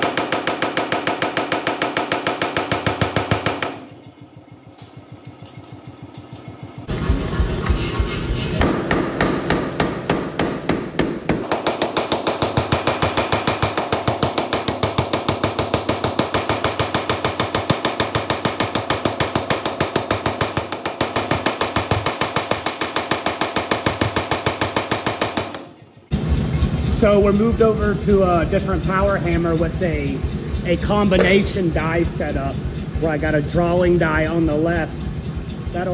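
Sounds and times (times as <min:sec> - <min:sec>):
power hammer pounding metal: 0:00.0 - 0:04.0, 0:06.8 - 0:35.9.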